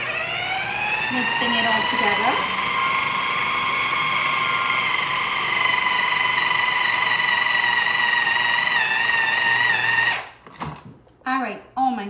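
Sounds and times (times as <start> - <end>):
food processor motor whining: 0.0 - 10.5.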